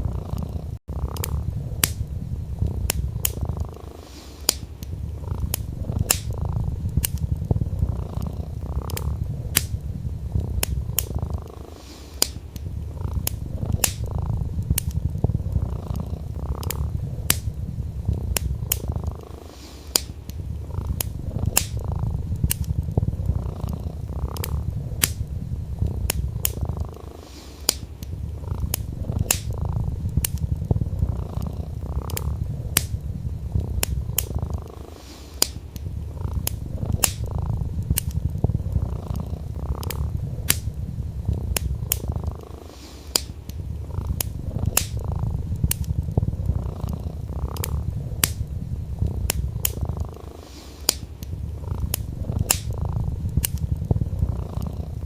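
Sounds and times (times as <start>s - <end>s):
cat purring: 0.0s - 55.0s
wood crackling in fireplace: 0.0s - 55.0s.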